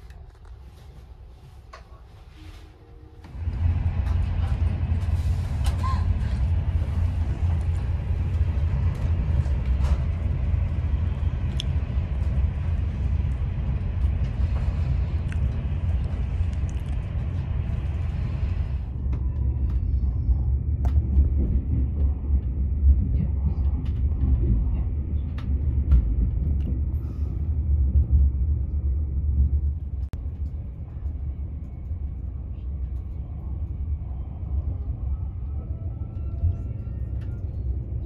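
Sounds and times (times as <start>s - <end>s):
train wheels rumbling: 3.2s - 38.0s.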